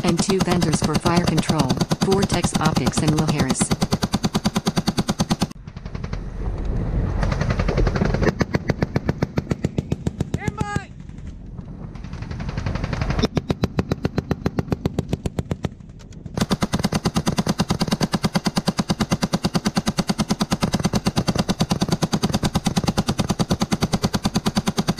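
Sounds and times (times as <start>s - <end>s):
machine gun automatic bursts: 0.0s - 6.2s, 7.2s - 11.3s, 11.9s - 24.9s.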